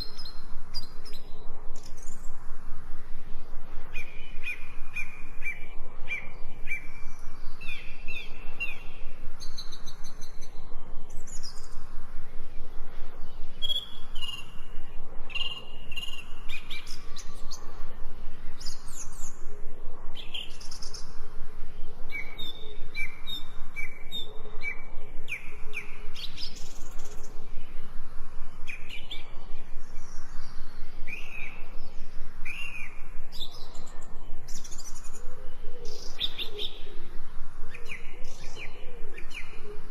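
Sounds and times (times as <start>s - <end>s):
birds chirping and singing: 3.9s - 27.8s, 28.4s - 39.9s.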